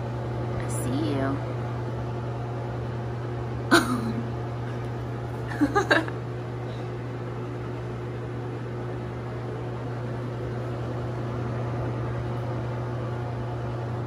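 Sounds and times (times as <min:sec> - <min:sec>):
ventilation fan humming: 0:00.0 - 0:14.0.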